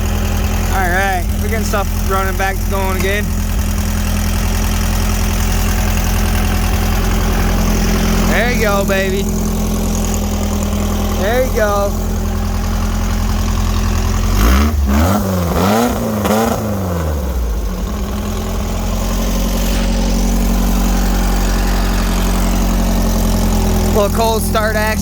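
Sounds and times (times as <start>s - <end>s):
engine idling with throttle blips: 0.0s - 25.0s.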